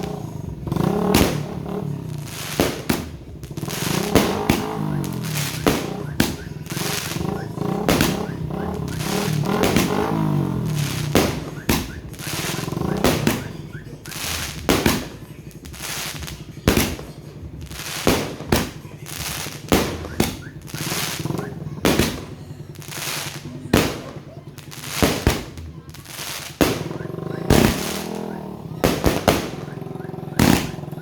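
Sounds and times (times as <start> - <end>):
fireworks bangs: 0.0 - 31.0
fireworks hissing and crackling: 0.0 - 31.0.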